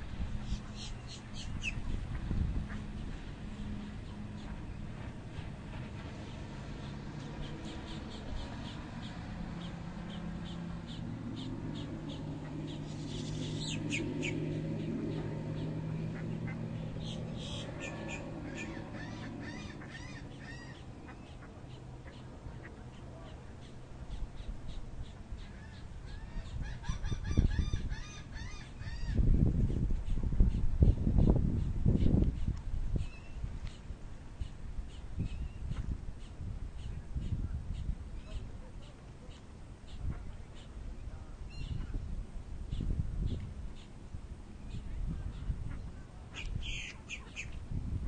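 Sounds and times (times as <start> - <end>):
birds calling: 0.0 - 42.0, 42.7 - 47.7
steady low hum: 0.0 - 48.0.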